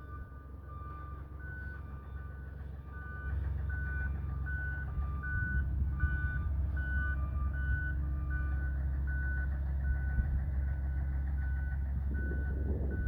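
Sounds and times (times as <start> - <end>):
bulldozer diesel rumble: 0.0 - 13.0.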